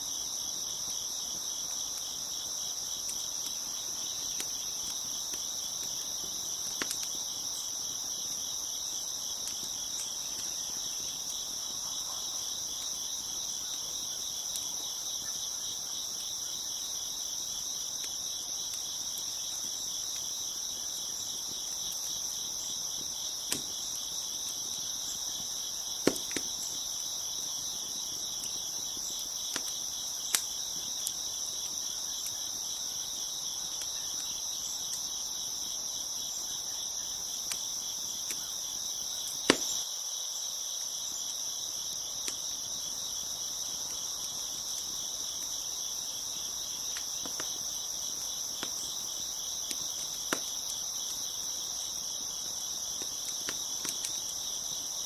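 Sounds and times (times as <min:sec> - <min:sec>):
wood fire popping and crackling: 0:00.0 - 0:35.8, 0:37.0 - 0:39.8, 0:41.7 - 0:55.0
crickets chirping: 0:00.0 - 0:55.0.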